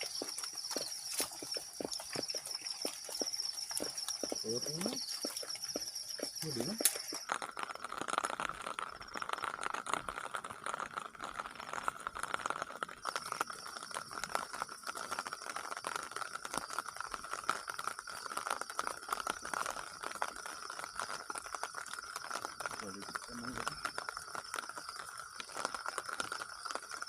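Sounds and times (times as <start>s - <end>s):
insects chirring: 0.0s - 27.0s
raindrops dripping on a shelter: 0.0s - 27.0s.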